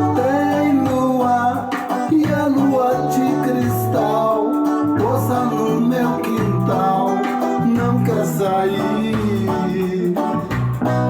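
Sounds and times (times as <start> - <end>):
instrumental reggae music: 0.0 - 11.0.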